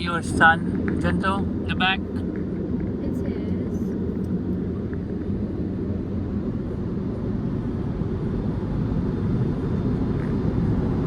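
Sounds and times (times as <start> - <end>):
car wash blowers rumbling: 0.0 - 11.0.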